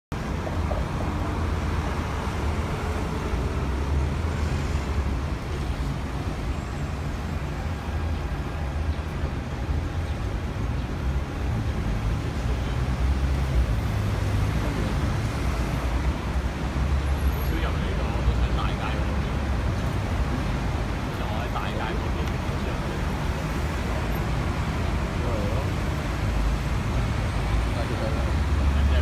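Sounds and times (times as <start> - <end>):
traffic rumble: 0.1 - 29.0.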